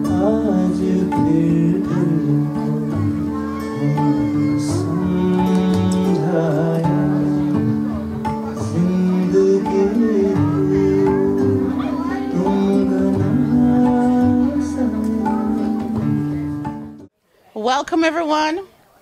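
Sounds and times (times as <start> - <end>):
man singing: 0.0 - 16.6
plucked guitar: 0.0 - 17.1.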